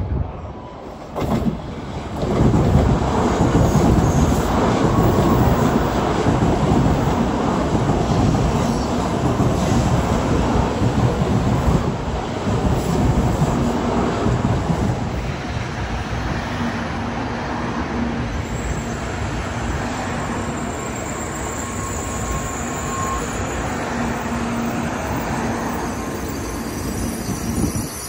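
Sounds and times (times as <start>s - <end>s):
high-speed train rushing past: 0.0s - 28.0s.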